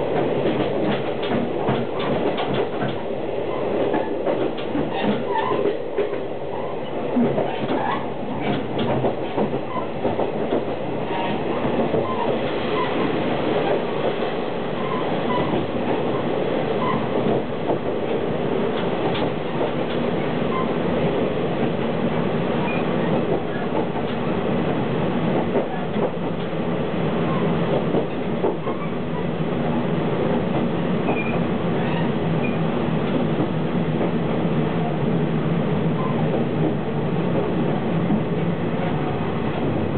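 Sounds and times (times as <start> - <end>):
wheels rumbling on rail: 0.0 - 39.9.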